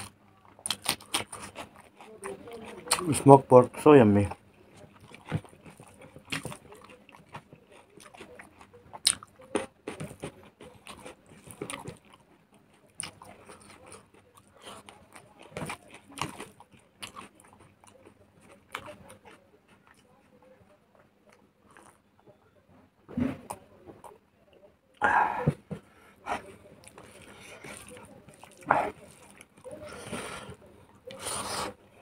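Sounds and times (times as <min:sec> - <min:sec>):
person chewing: 0:00.0 - 0:22.3, 0:24.9 - 0:32.0.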